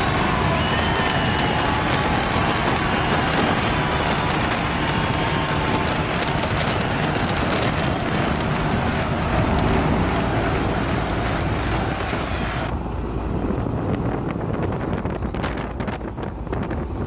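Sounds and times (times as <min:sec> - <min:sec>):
car engine: 0:00.0 - 0:17.0
wind buffeting microphone: 0:00.0 - 0:17.0.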